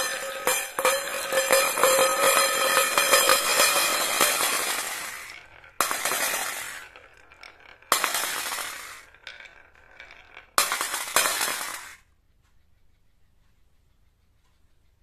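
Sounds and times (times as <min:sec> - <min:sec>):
glass marbles clattering on wood: 0:00.0 - 0:12.0
marbles clinking into steel bowl: 0:00.0 - 0:12.0.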